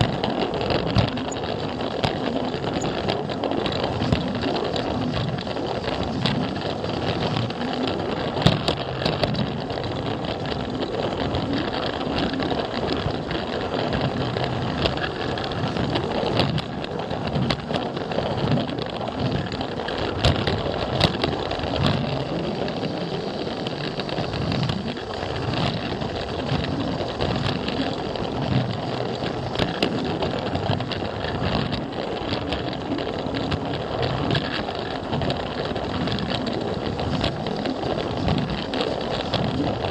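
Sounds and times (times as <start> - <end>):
wheel rattle: 0.0 - 39.9
wheels clicking over track joints: 0.0 - 39.9.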